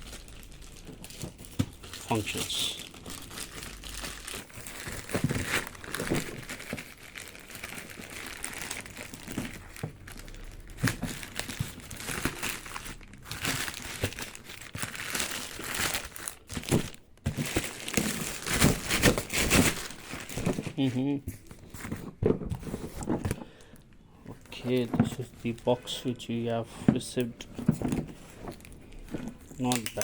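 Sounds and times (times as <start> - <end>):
packaging crinkling and tearing: 0.0 - 26.0, 27.1 - 30.0.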